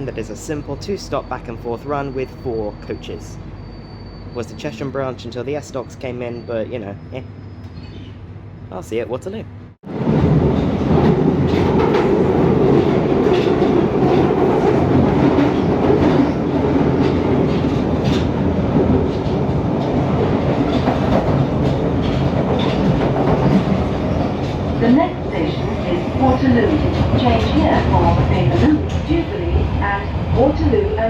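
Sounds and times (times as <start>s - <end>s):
train rumbling through tunnel: 0.0s - 31.0s.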